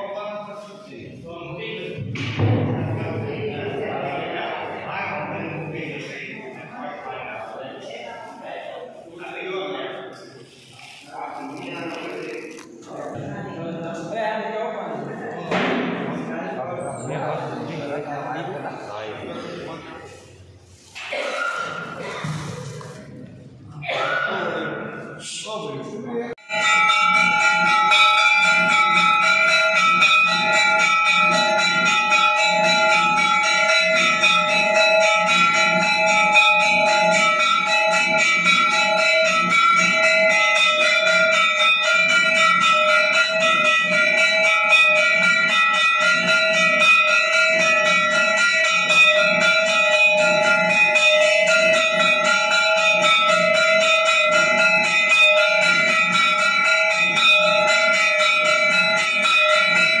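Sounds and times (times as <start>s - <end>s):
temple bells ringing rapidly: 1.6s - 7.7s, 13.8s - 22.4s, 26.4s - 60.0s.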